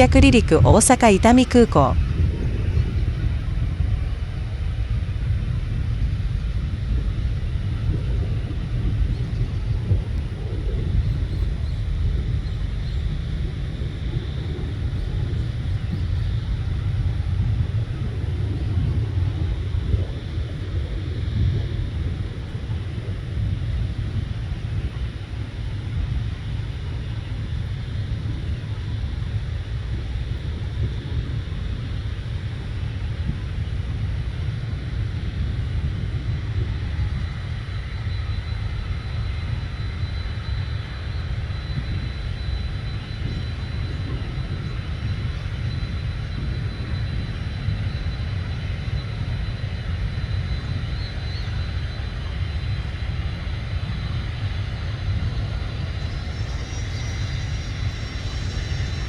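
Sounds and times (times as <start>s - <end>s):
jet engines deep rumble: 0.0s - 59.0s
thin high engine whine: 10.9s - 59.0s.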